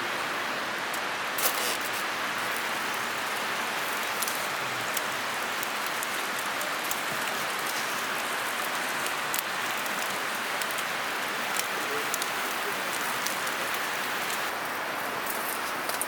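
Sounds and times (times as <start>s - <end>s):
campfire pops and crackles: 0.9s - 16.0s
food sizzling on a grill: 1.3s - 16.0s.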